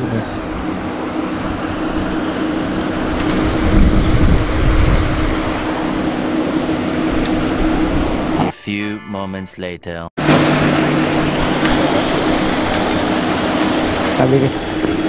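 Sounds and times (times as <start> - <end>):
steady mechanical hum: 0.0 - 8.5, 10.2 - 15.0.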